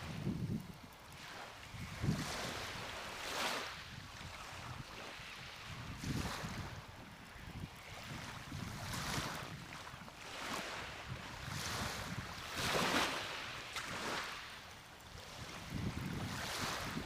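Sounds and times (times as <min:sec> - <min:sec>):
small waves breaking: 0:00.0 - 0:17.0
wind on microphone: 0:00.0 - 0:17.0.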